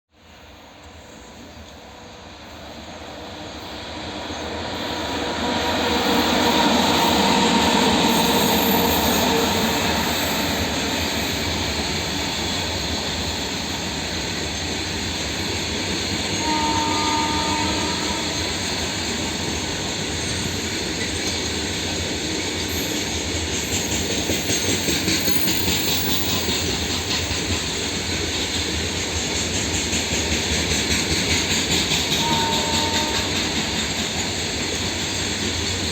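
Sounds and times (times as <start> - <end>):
train wheel squeals: 2.4 - 35.9.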